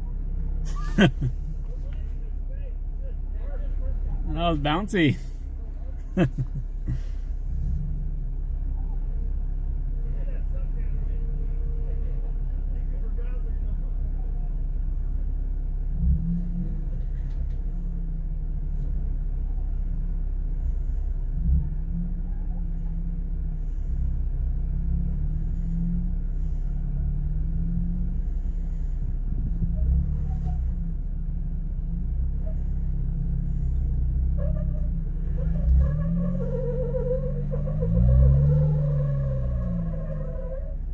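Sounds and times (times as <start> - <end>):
engine rumble inside cab: 0.0 - 40.9.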